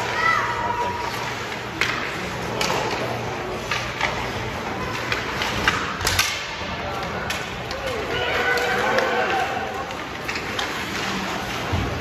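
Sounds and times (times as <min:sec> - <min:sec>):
hockey sticks and puck clacking: 0:00.0 - 0:12.0
skates scraping ice: 0:00.0 - 0:12.0
steady background hum: 0:00.0 - 0:12.0.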